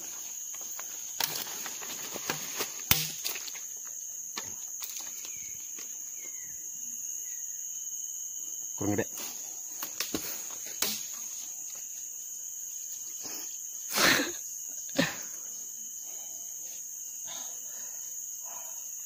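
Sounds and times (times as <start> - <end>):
shrill insect chorus: 0.0 - 19.0.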